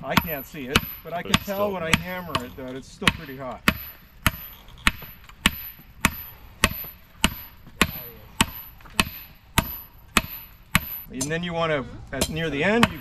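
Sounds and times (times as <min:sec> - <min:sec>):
hammer blows on hot iron: 0:00.0 - 0:13.0.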